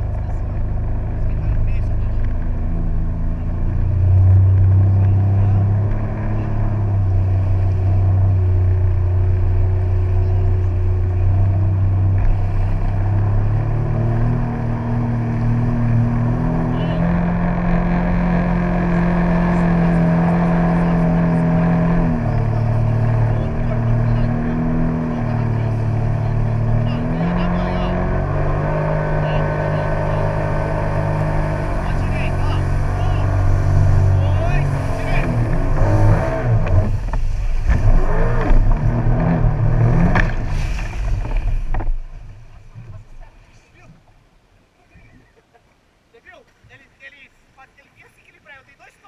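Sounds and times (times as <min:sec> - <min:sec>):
jet ski engine running: 0:00.0 - 0:43.3.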